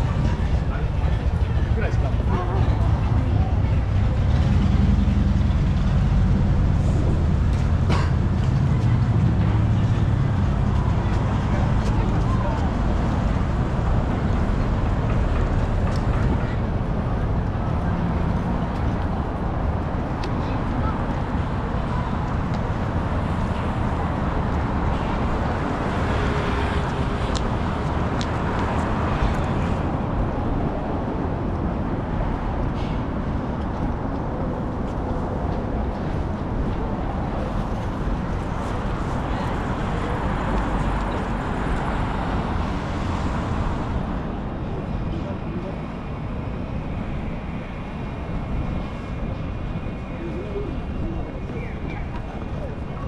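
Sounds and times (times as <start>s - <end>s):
rumble of passing vehicles: 0.0s - 53.0s.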